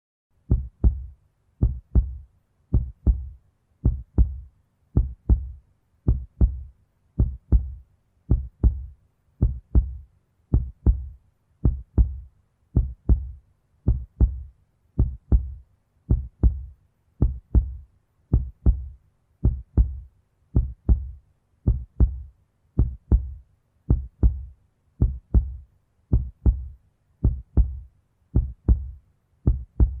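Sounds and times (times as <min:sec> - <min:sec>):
heartbeat thumps: 0:00.5 - 0:30.0.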